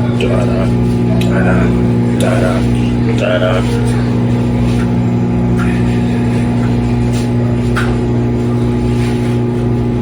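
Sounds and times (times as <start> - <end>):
microwave low hum: 0.0 - 10.0.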